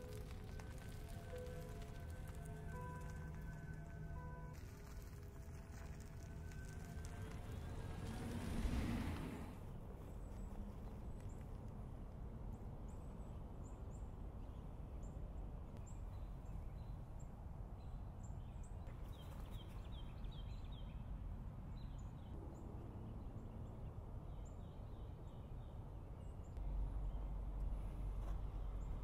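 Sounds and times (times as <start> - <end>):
low steady rumble: 0.0 - 18.8, 19.5 - 29.0.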